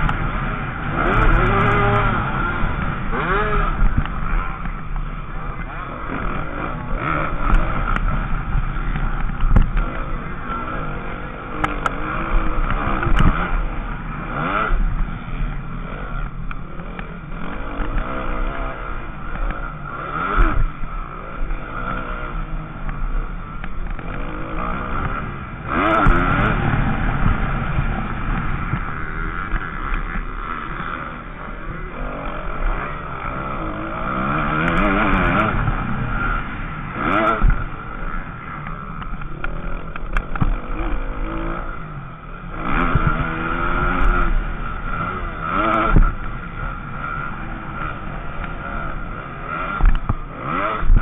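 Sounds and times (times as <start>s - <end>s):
motocross bike engine revving: 0.0s - 51.0s.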